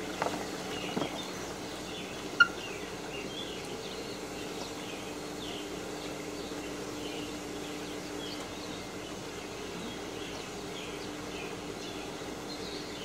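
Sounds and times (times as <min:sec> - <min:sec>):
low hum and hiss: 0:00.0 - 0:13.0
bird chirps: 0:00.6 - 0:13.0.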